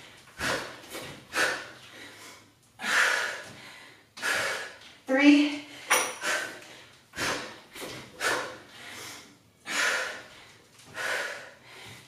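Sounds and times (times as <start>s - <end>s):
woman breathing hard: 0.0s - 5.0s, 5.6s - 12.0s.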